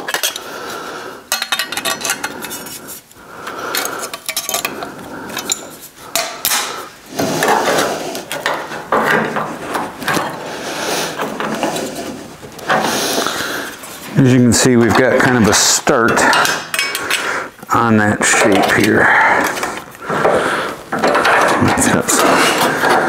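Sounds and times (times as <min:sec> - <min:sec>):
metal crinkling: 0:00.0 - 0:23.0
sheet metal clinking and scraping: 0:01.3 - 0:23.0.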